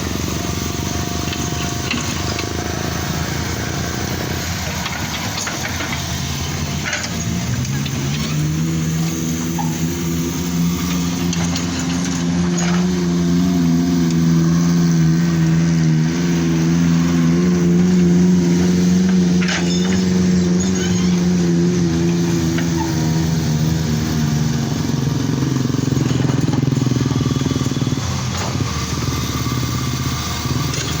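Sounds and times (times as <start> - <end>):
large engine running: 0.0 - 31.0.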